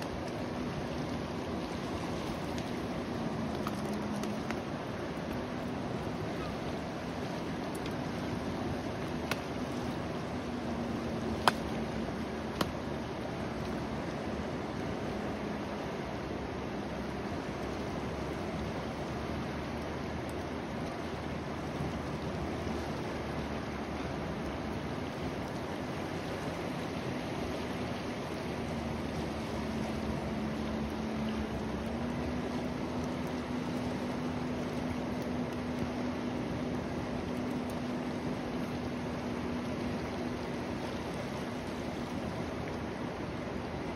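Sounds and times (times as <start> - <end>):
low hum: 0.0 - 43.9
river rushing: 0.0 - 43.9.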